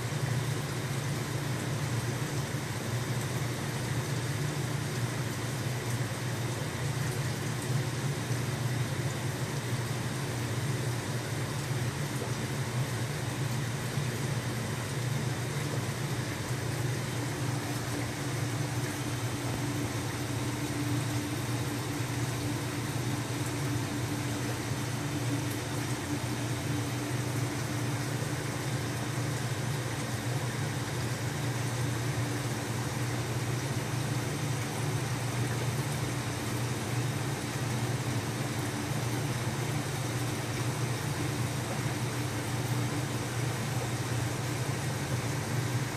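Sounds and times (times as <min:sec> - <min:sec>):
aquarium equipment humming: 0:00.0 - 0:45.9.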